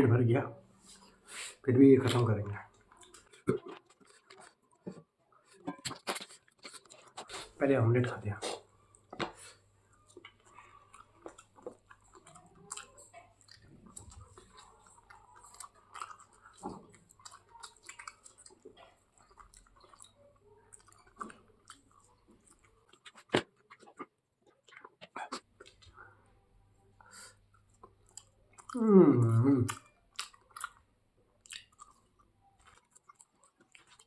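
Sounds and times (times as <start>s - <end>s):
person chewing food: 0.8s - 34.0s.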